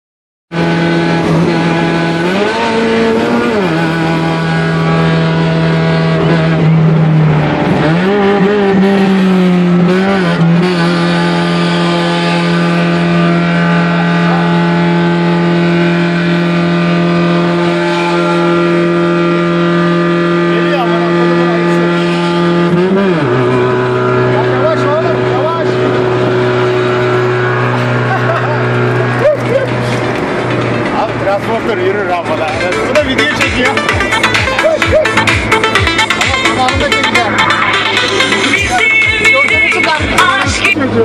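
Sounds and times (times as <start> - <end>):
van engine droning inside cab: 0.5 - 41.0.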